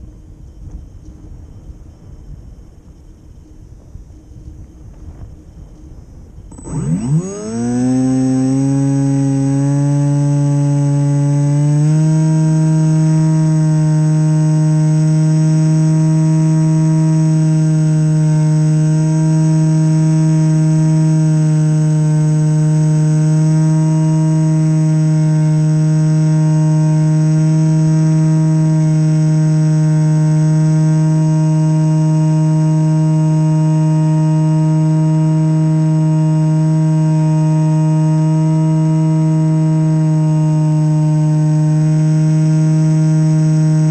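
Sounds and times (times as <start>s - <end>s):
electric motor and propeller droning: 2.8s - 43.9s.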